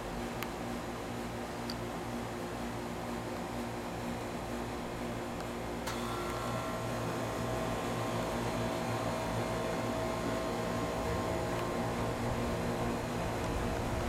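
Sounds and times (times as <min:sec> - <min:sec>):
machine hum with held tones: 0:00.0 - 0:14.0.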